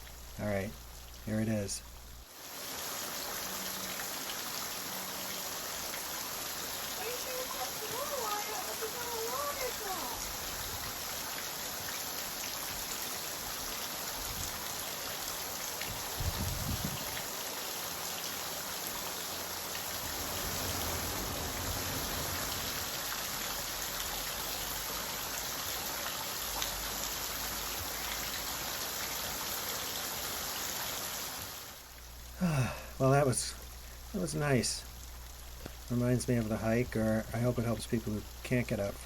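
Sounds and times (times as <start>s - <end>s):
small waterfall splashing: 2.2s - 39.0s.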